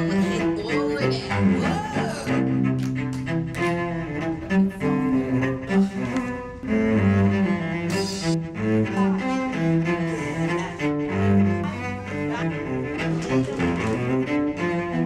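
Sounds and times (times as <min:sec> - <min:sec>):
bowed cello melody: 0:00.0 - 0:15.0.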